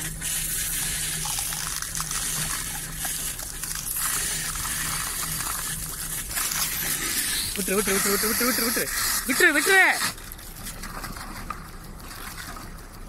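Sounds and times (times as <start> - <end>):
low hum: 0.0 - 9.4, 10.1 - 13.0
water gushing from a pipe: 0.0 - 13.0.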